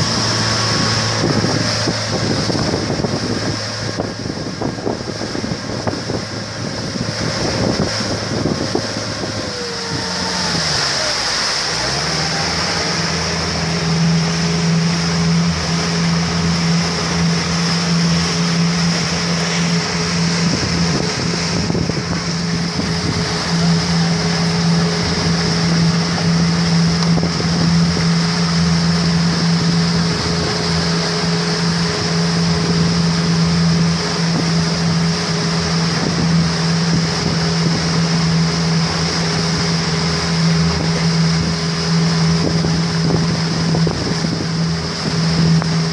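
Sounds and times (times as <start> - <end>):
motorboat engine droning: 0.0 - 45.9
water rushing past hull: 0.0 - 45.9.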